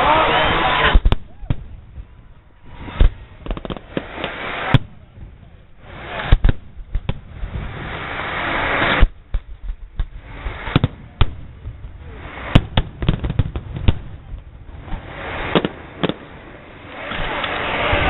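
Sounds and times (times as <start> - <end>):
fireworks hissing and banging: 0.0 - 18.0.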